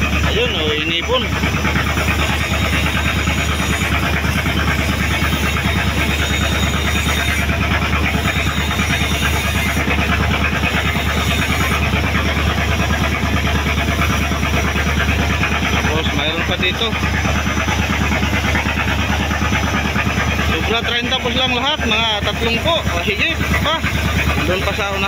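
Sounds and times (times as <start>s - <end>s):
boat engine chugging: 0.0s - 25.0s.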